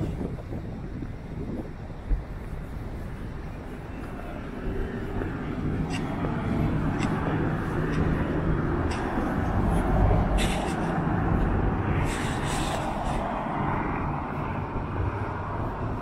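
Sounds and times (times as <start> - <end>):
traffic hiss: 0.0 - 16.0
vehicle engine rumbling: 0.0 - 16.0.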